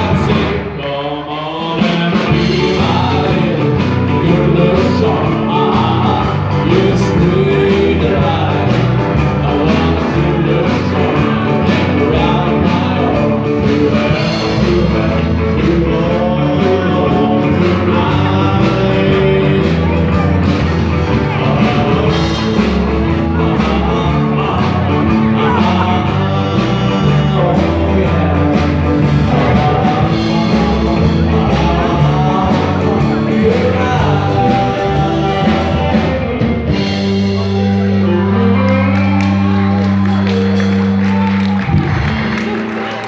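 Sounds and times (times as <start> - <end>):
live rock band playing: 0.0 - 43.0
person singing: 0.0 - 43.0.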